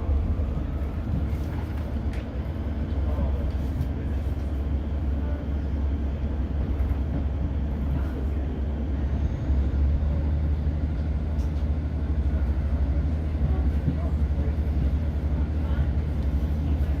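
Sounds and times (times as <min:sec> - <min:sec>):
diesel engine drone: 0:00.0 - 0:17.0
train running noise: 0:00.0 - 0:17.0.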